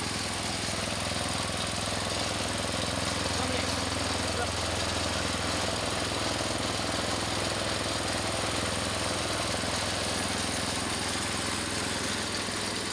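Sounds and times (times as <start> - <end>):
engine-driven grinding mill: 0.0 - 12.9.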